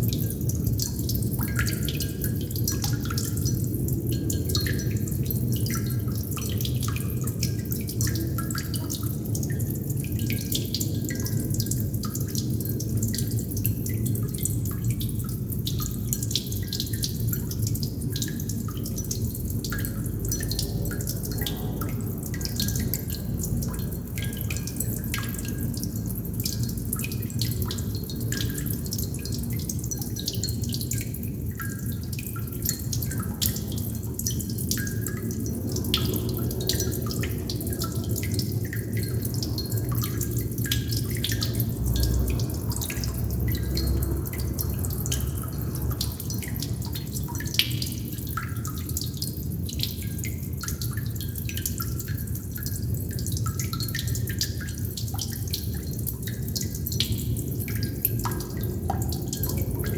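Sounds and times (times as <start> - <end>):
low background rumble: 0.0 - 59.9
water droplets dripping: 0.0 - 59.9.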